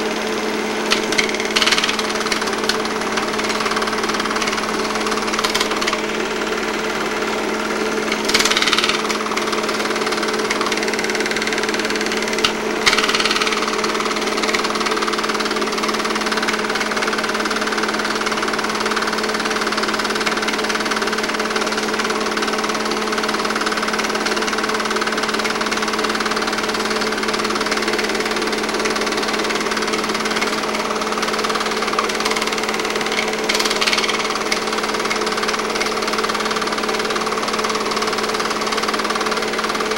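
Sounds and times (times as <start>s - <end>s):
film projector hum and rattle: 0.0s - 39.9s.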